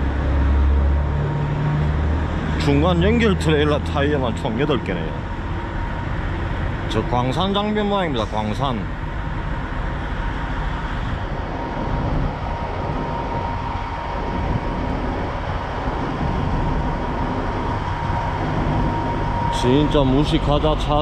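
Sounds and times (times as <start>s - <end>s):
diesel truck idling: 0.0s - 21.0s.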